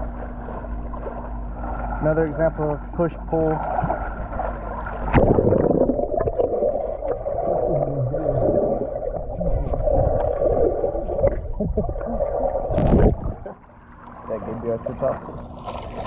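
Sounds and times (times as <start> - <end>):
muffled underwater rush and bubbles: 0.0 - 16.0.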